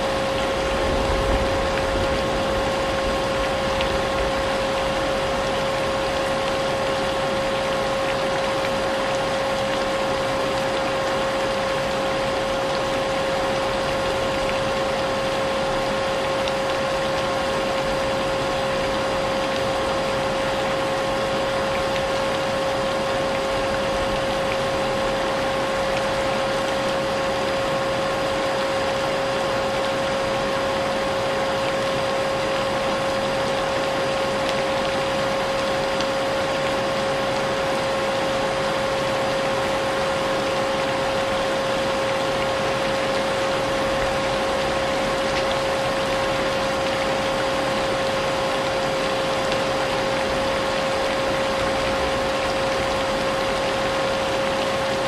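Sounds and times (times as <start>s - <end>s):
rain pattering: 0.0s - 28.6s, 32.7s - 55.0s.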